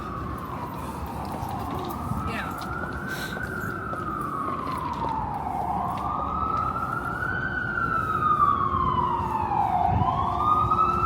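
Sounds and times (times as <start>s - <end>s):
city street noise: 0.0s - 11.0s
emergency vehicle siren wailing: 0.0s - 11.0s.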